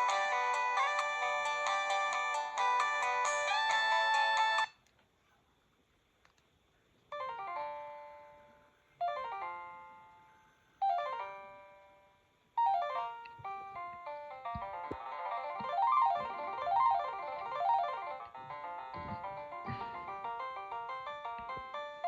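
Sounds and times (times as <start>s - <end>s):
polyphonic phone ringtone: 0.0s - 4.8s, 7.2s - 22.0s
ringtone falling run of notes: 0.0s - 4.8s, 7.1s - 22.0s.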